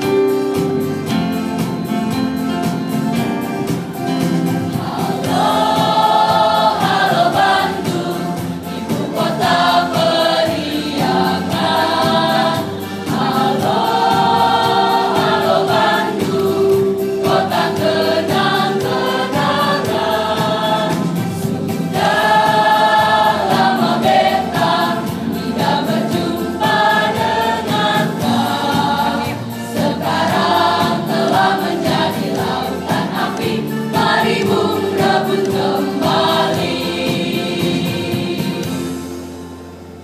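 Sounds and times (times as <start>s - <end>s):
children's choir singing: 3.6s - 39.4s.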